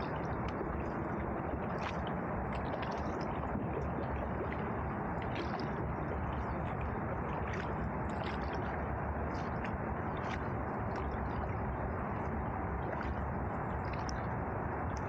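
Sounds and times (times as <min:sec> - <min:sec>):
paddle splashes: 0:00.0 - 0:15.0
steady low rumble: 0:00.0 - 0:15.0
water gurgling and dripping: 0:00.0 - 0:15.0.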